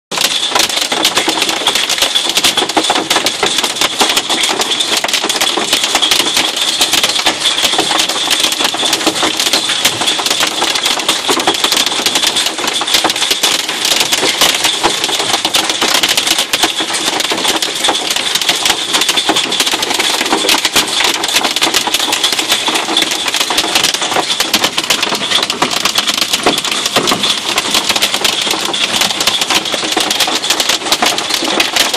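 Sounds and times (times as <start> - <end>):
hail clattering on vehicle roof: 0.1 - 31.9.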